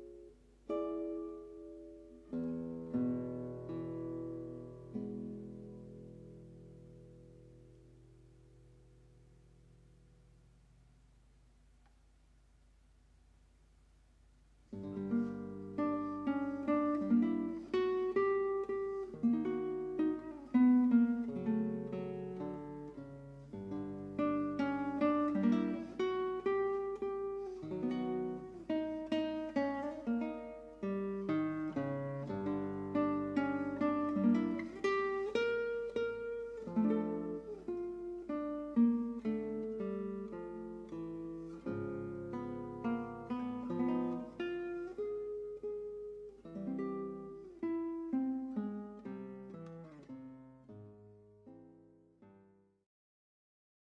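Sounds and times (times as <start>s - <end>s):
acoustic guitar playing: 0.0s - 11.1s, 14.6s - 52.7s.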